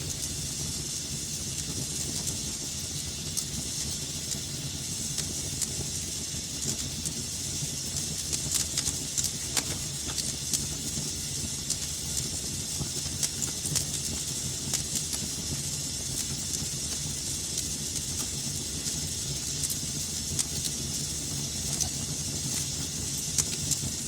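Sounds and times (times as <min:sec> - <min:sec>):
fire crackling in a fireplace: 0:00.0 - 0:24.0.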